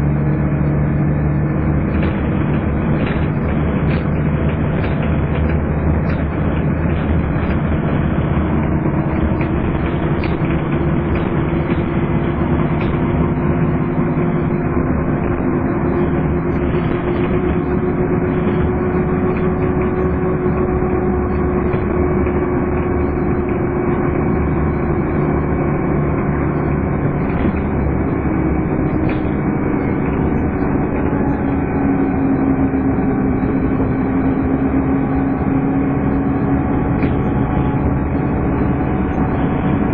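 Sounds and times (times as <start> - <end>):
bus engine whining: 0.0 - 39.9.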